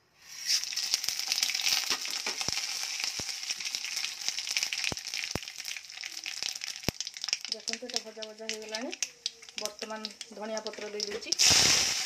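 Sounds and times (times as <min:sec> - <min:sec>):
seeds sizzling in hot oil: 0:00.2 - 0:12.0.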